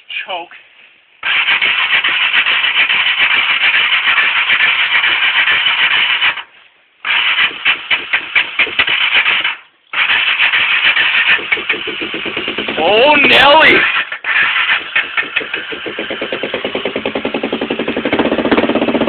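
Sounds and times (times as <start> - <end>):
electric starter cranking engine: 1.2 - 19.0.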